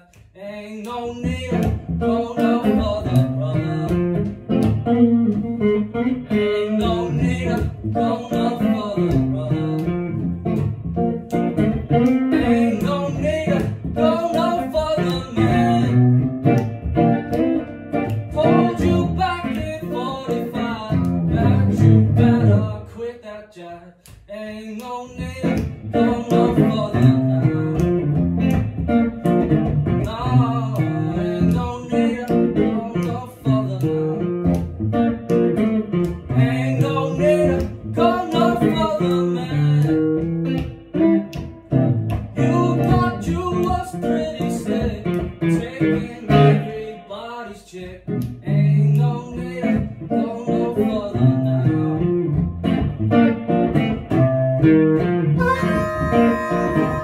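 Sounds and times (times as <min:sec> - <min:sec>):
electric guitar playing blues: 0:00.0 - 0:23.4, 0:24.4 - 0:57.0.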